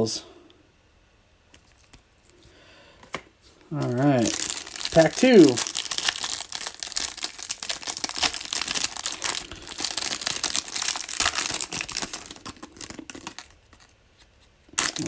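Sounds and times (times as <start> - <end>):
plastic wrapper crinkling: 1.5 - 2.5, 3.1 - 15.0.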